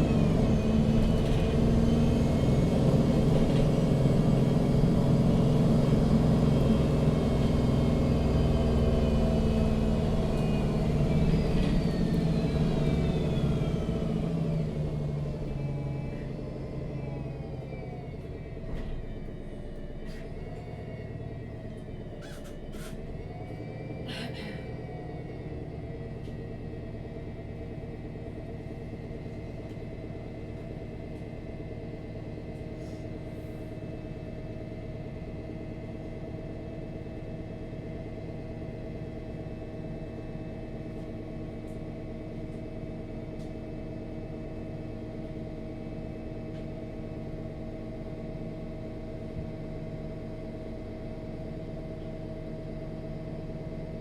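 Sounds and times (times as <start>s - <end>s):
bus engine low rumble: 0.0s - 54.0s
steady drivetrain whine: 0.0s - 54.0s.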